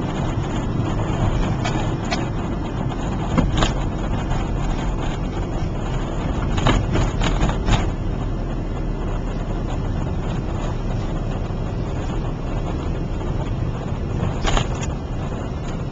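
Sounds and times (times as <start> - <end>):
car engine and tyre noise: 0.0 - 15.9
wind rumble: 0.0 - 15.9.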